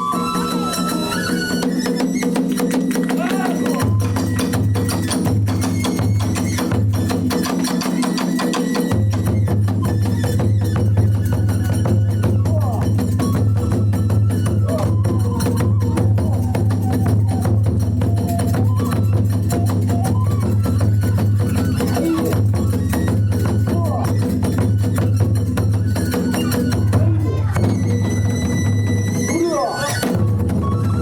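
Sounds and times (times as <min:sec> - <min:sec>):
drums: 0:00.0 - 0:31.0.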